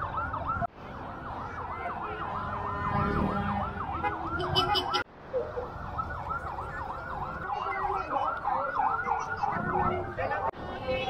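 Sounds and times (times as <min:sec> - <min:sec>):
siren yelping: 0:00.0 - 0:10.5.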